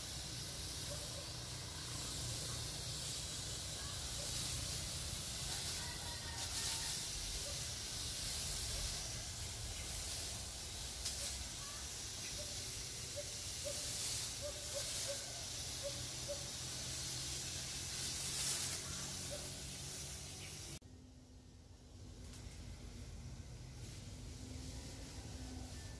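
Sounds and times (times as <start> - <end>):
spray nozzle hissing: 0.0 - 20.8
sprayer pump humming: 0.0 - 20.8.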